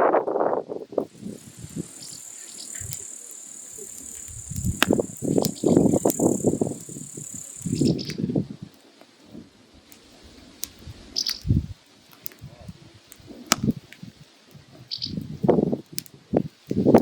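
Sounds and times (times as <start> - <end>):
wood fire crackling: 0.6 - 17.0.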